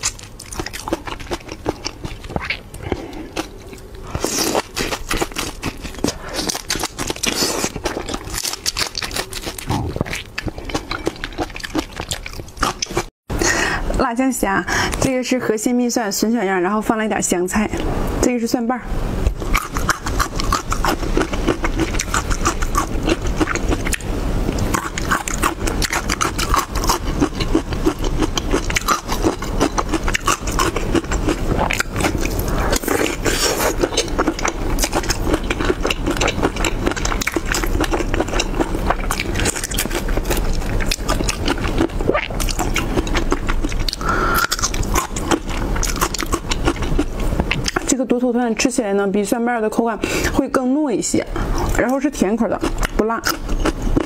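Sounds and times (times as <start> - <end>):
wet chewing and crunching: 0.0 - 13.1, 19.3 - 48.0, 51.4 - 54.0.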